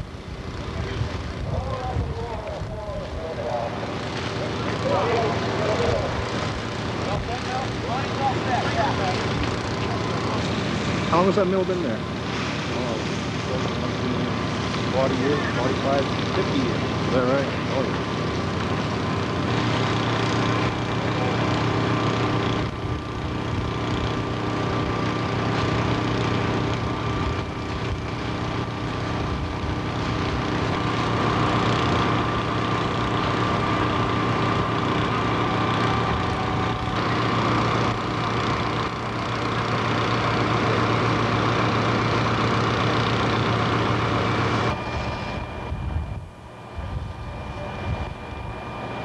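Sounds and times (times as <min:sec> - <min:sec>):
fire truck engine droning: 0:00.0 - 0:49.0.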